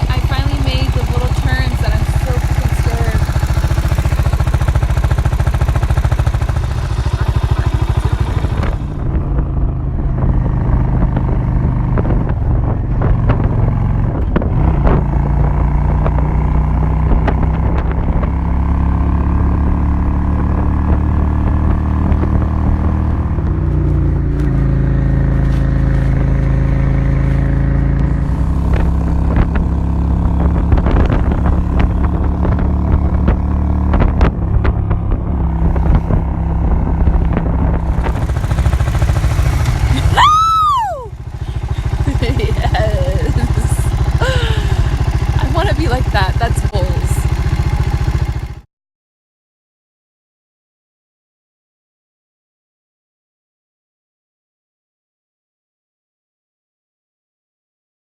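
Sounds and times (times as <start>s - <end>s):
motorcycle engine running: 0.0s - 48.7s.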